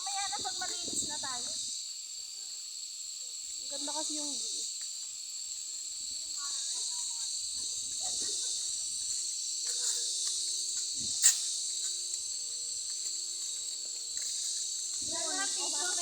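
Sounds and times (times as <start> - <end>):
insects buzzing trill: 0.0 - 16.0.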